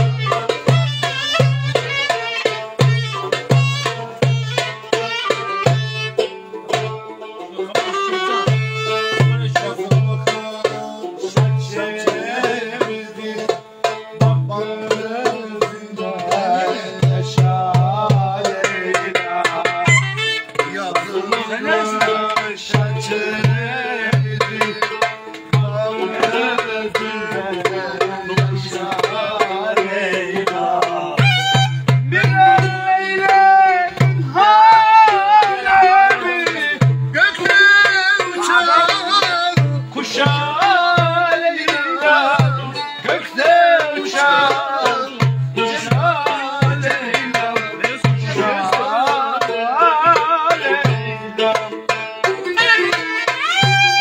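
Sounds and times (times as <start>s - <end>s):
deep drum beating rhythm: 0.0s - 54.0s.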